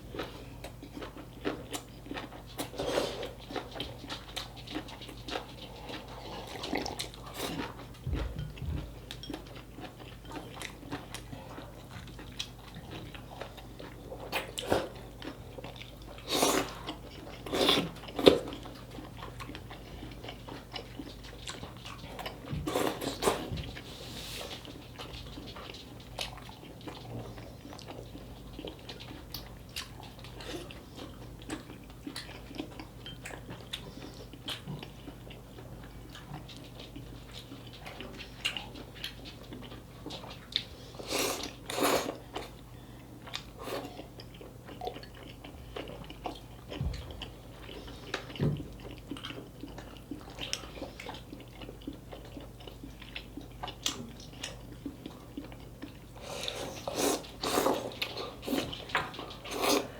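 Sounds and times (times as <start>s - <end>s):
person chewing with wet clicks: 0.0s - 23.9s, 24.5s - 59.9s.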